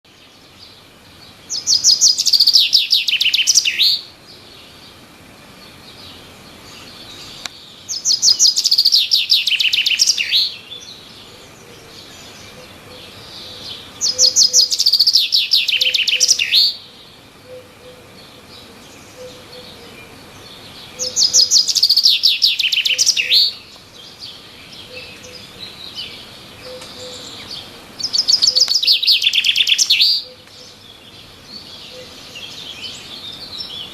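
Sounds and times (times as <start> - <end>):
songbird trilling song: 0.1 - 33.9
faint bird chirps: 5.6 - 33.9.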